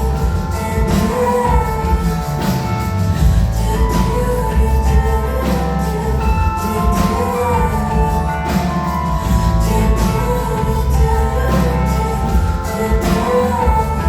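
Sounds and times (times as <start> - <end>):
live band with keyboards: 0.0 - 14.0
woman singing: 0.0 - 14.0.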